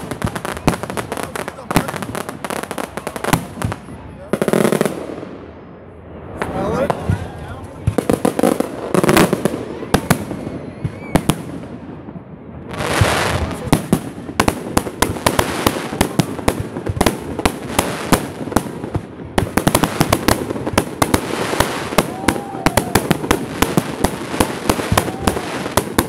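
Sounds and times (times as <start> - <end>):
fireworks crackling: 0.0 - 5.6, 6.2 - 26.0.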